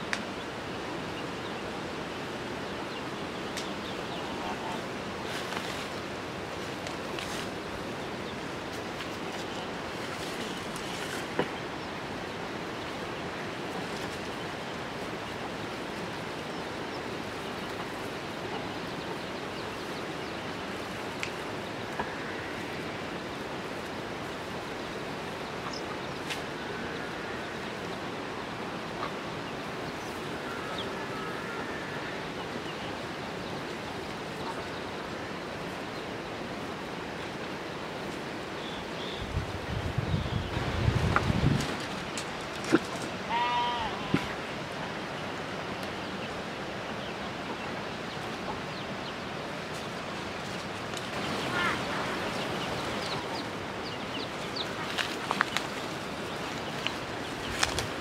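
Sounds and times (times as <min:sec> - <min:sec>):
steady rushing outdoor noise: 0:00.0 - 0:58.0.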